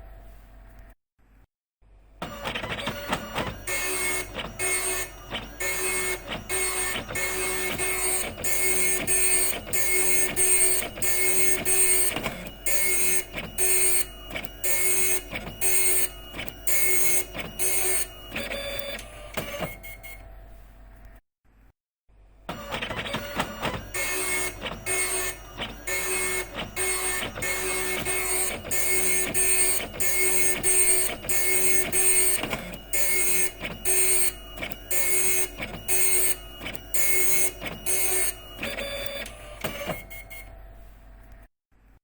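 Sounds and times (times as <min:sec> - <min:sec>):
dot matrix printer printing: 0:02.2 - 0:20.4, 0:22.5 - 0:40.9
printer mechanism sounds: 0:02.2 - 0:20.4, 0:22.5 - 0:41.4.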